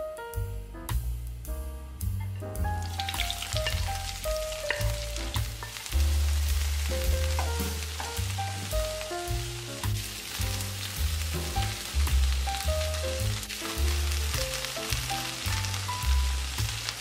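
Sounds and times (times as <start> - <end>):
background music with bass: 0.0 - 17.0
vegetables sizzling in oil: 2.6 - 17.0.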